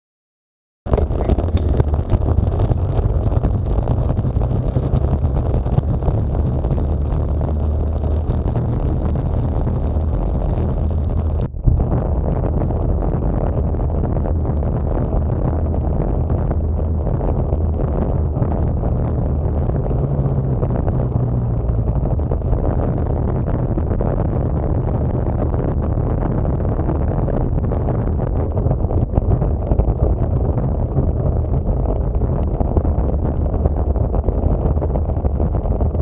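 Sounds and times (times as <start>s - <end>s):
bicycle rumble: 0.9s - 36.0s
wind buffeting microphone: 0.9s - 36.0s.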